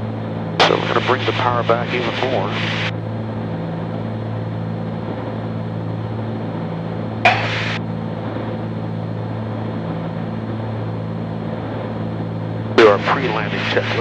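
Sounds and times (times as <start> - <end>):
twin propeller engines droning: 0.0 - 14.0.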